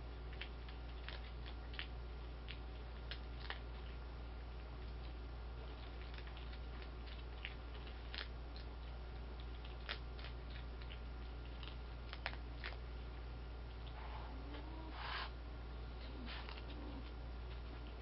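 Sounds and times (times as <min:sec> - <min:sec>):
animals crunching dry kibble: 0:00.0 - 0:14.7, 0:15.9 - 0:18.0
steady low hum: 0:00.0 - 0:18.0.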